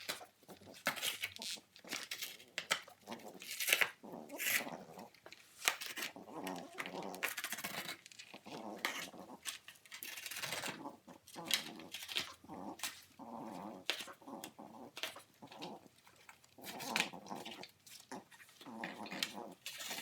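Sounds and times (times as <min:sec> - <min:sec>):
puppy growling: 0:00.0 - 0:20.0.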